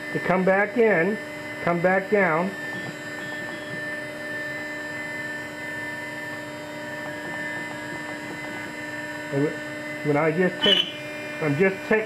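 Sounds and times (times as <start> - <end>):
router spindle whining: 0.0 - 12.0.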